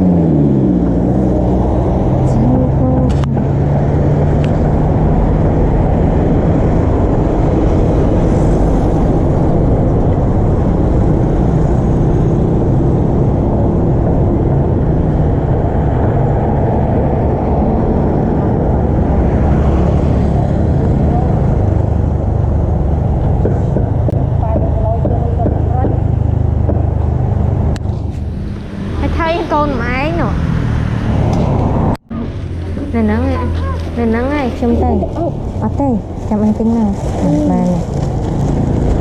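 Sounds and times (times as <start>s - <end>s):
low motor rumble: 0.0s - 39.0s.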